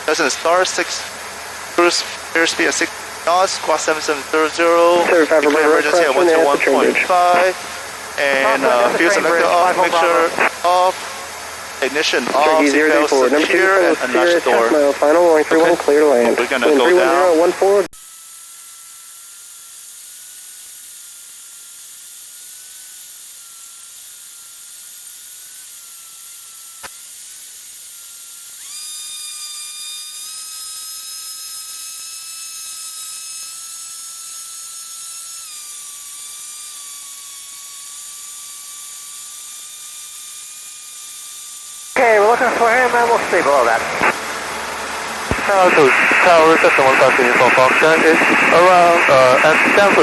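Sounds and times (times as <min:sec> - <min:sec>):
high-pitched electrical whine: 0:00.0 - 0:18.8, 0:28.5 - 0:50.0.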